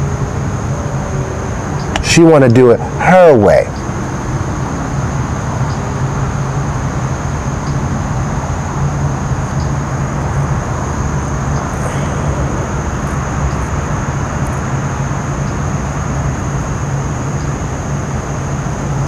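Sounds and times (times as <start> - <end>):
faint high whine: 0.0 - 19.0
road hiss: 0.0 - 19.0
vehicle low rumble: 0.0 - 19.0.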